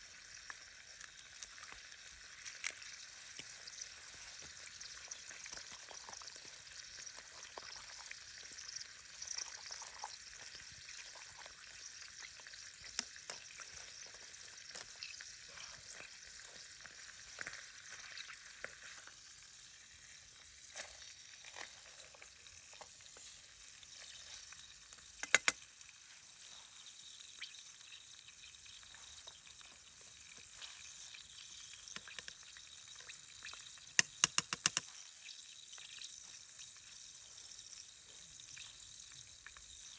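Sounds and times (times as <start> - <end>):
sizzling hiss with crackles: 0.0 - 39.9.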